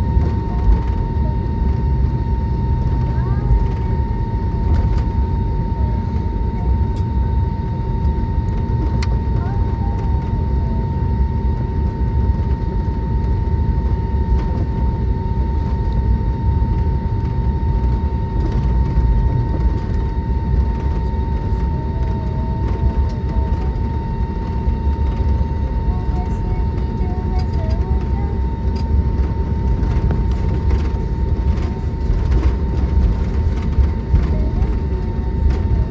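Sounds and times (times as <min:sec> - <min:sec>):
airplane cabin rumble: 0:00.0 - 0:35.9
constant high whine: 0:00.0 - 0:35.9.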